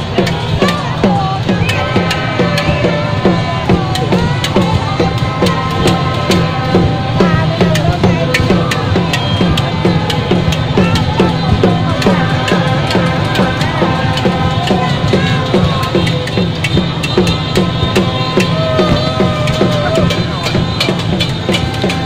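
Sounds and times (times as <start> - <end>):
long held high notes: 0.0 - 22.0
music with steady drum beat: 0.0 - 22.0.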